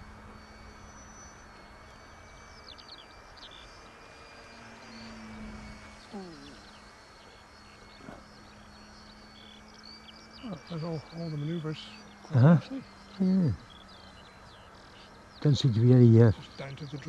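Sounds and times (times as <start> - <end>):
model plane motor humming: 0.0 - 17.0
small birds chirping: 0.0 - 17.0.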